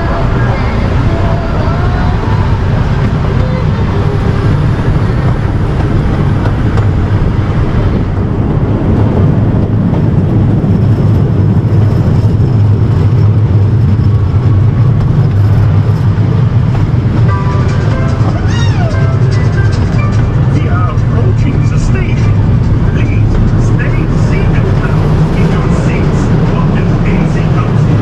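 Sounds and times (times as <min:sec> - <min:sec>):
ride train rumbling: 0:00.0 - 0:28.0.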